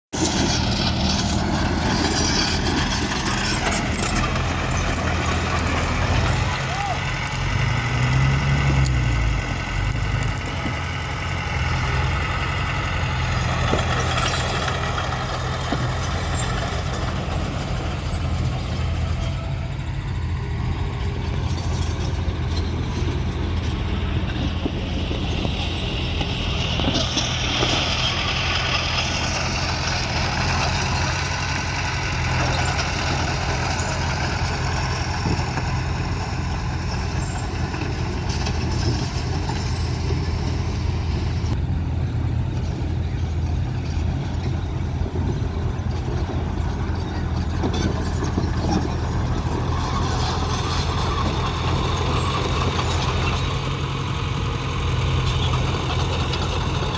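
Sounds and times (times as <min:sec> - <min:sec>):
heavy diesel engines rumbling: 0:00.1 - 0:56.9.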